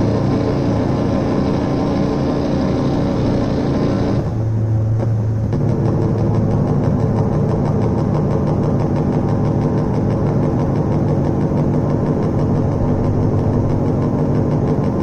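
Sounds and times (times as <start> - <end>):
low electronic drone with throbbing pulse: 0.0 - 15.0.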